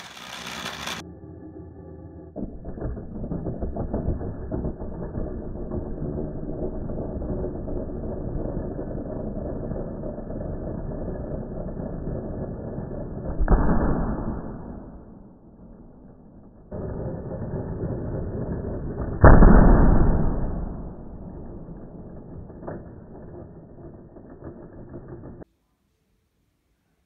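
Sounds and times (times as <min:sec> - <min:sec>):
toy car wheels rumbling on wood: 0:00.0 - 0:13.5, 0:14.4 - 0:25.5.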